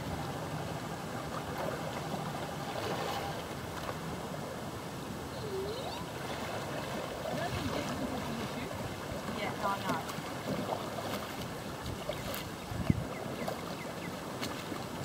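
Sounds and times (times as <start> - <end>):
lake water lapping and splashing: 0.0 - 15.0.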